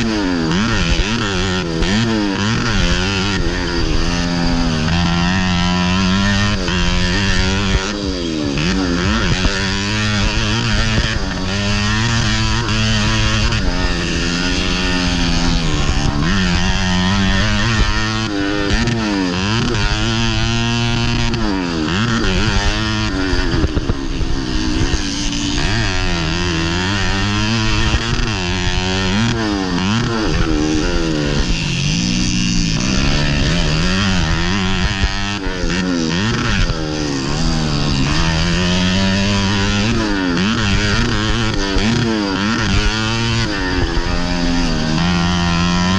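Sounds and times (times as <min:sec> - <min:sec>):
motorcycle engine racing: 0:00.0 - 0:45.9.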